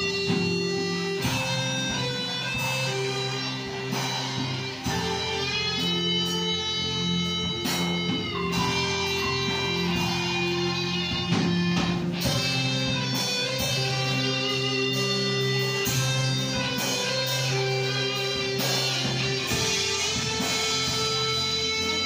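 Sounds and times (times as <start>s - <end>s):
church band playing: 0.0s - 22.0s
drum strikes: 0.0s - 22.0s
electric guitar: 0.0s - 22.0s.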